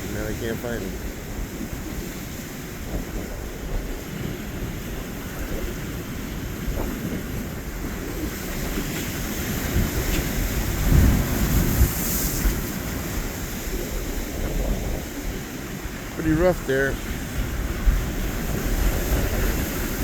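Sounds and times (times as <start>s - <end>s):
rough surf: 0.0s - 20.0s
wind buffeting microphone: 0.0s - 20.0s.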